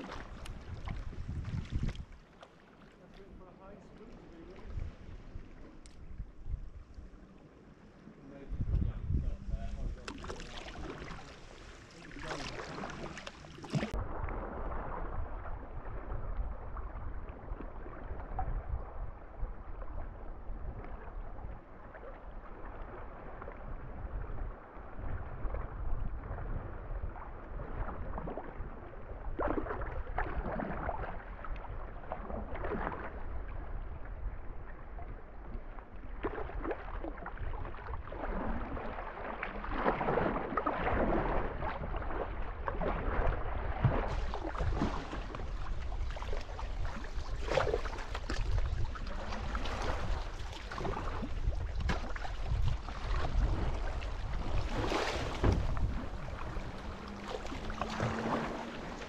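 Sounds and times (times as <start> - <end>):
wind rumbling on microphone: 0.0 - 2.2, 3.1 - 59.0
water splashing around kayak: 0.0 - 59.0.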